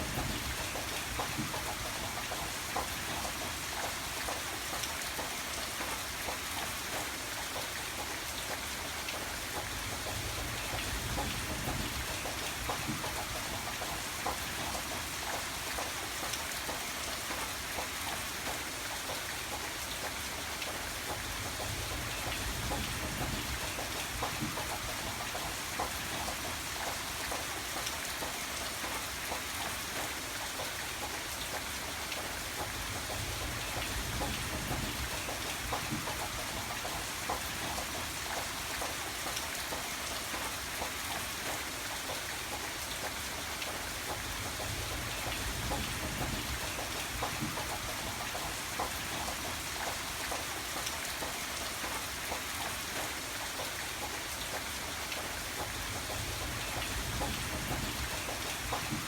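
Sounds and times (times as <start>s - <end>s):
raindrops ticking on a surface: 0.0s - 59.0s
steady rain hissing: 0.0s - 59.0s.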